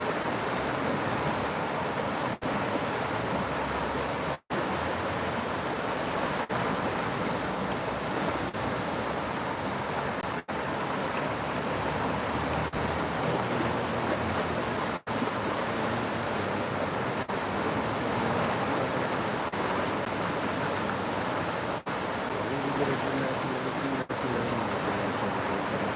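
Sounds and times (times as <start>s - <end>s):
river rushing: 0.0s - 25.9s.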